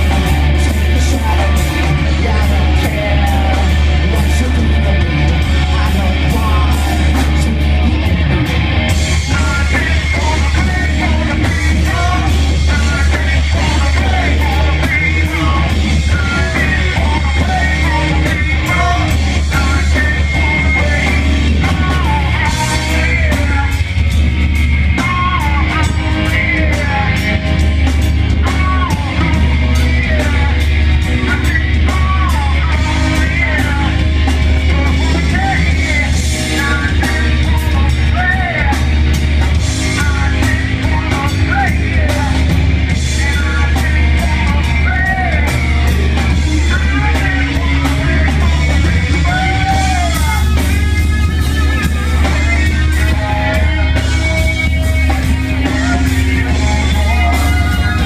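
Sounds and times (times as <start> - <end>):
heavy bass: 0.0 - 58.0
live rock band playing: 0.0 - 58.0
person singing: 0.0 - 58.0.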